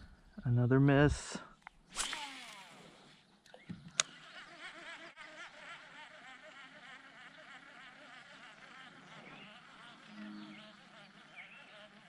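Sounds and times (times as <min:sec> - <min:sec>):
insects chirring: 0:02.0 - 0:12.0.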